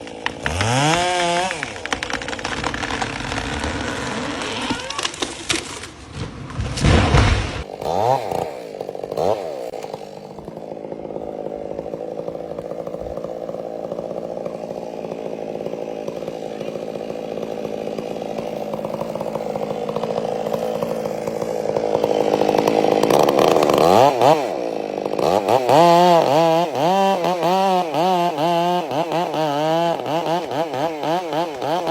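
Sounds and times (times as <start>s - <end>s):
chainsaw revving: 0.0s - 31.9s.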